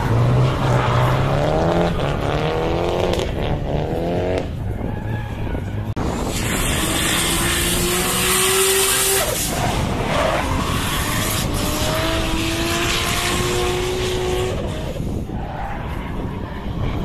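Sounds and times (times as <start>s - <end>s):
tyres skidding: 0.0s - 17.0s.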